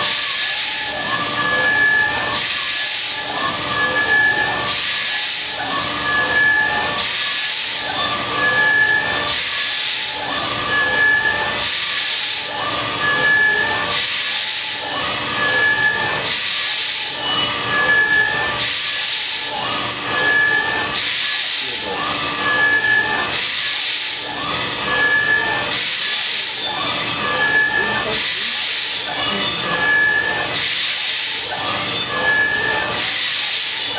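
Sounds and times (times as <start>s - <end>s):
cnc router spindle hissing: 0.0s - 33.9s.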